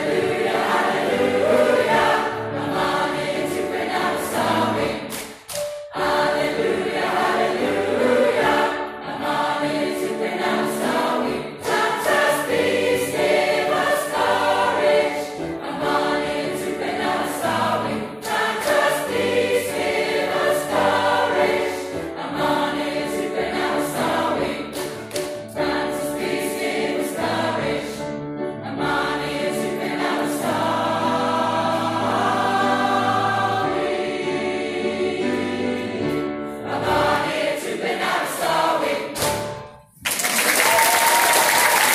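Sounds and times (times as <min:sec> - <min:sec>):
choir singing: 0:00.0 - 0:39.2.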